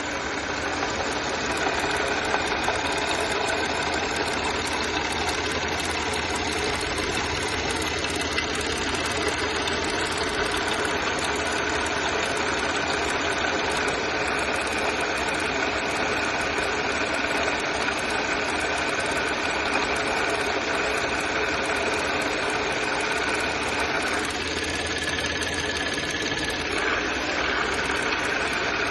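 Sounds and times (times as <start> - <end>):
car engine idling with knock: 0.0 - 28.9.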